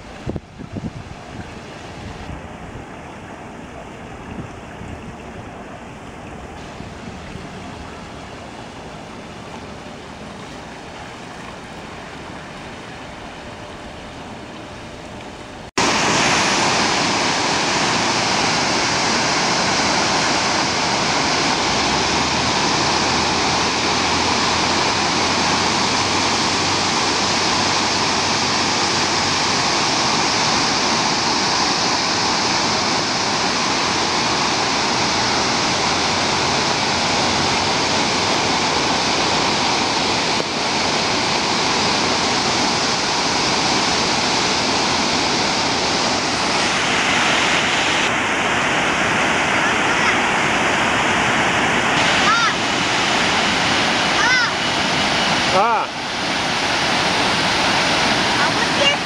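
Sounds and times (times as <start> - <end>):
water rushing over dam: 0.0 - 59.0.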